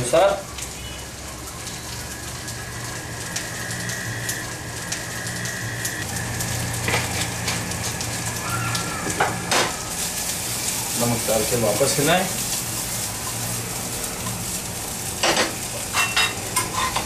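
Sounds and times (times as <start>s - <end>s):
potatoes sizzling in hot oil: 0.0s - 17.0s.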